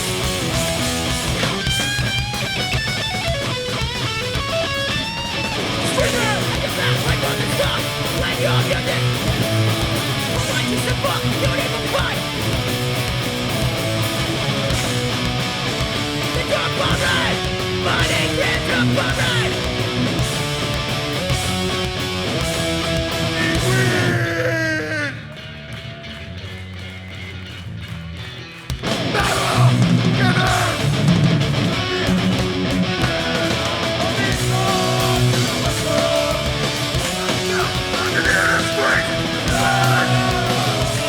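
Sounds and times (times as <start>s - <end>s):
high held guitar notes: 0.0s - 25.8s, 28.8s - 41.0s
punk band playing: 0.0s - 41.0s.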